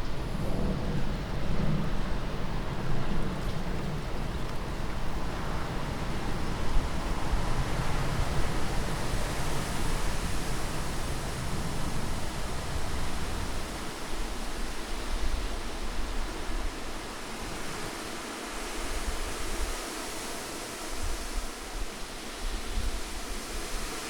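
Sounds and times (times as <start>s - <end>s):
rushing wind: 0.0s - 24.0s.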